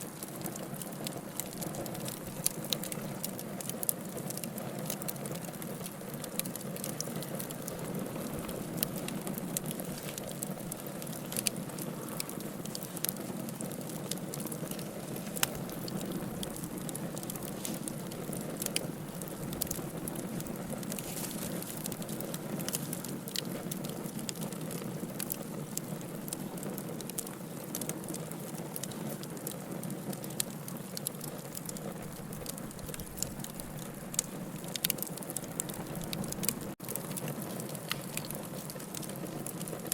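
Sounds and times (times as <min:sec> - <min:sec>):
burning wood crackling and popping: 0:00.0 - 0:39.9
campfire flames hissing: 0:00.0 - 0:39.9.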